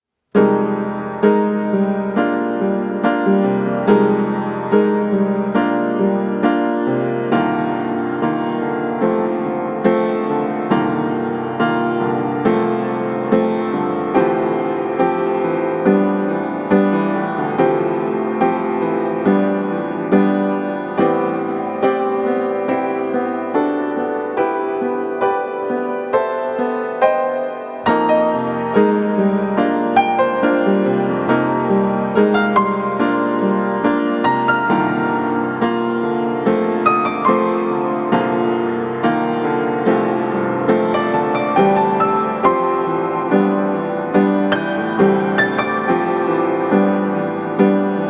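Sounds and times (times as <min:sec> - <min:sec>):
gentle piano music: 0:00.3 - 0:48.0.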